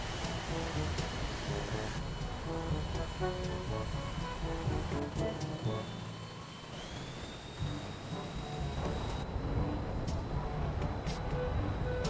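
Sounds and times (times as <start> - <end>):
low rumbling engine: 0.0 - 12.0.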